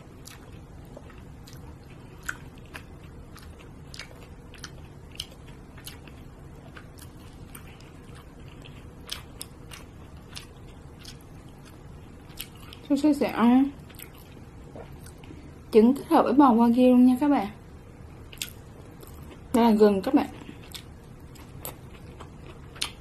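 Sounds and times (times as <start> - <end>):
person chewing food: 0.0 - 12.9, 13.8 - 15.5, 18.2 - 19.6, 20.3 - 23.0.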